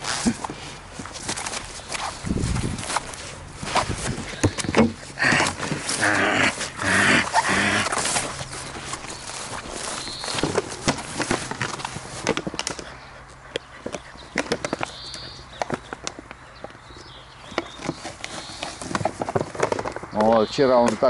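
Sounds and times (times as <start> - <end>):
puppy chewing plastic bottle: 1.1 - 21.0.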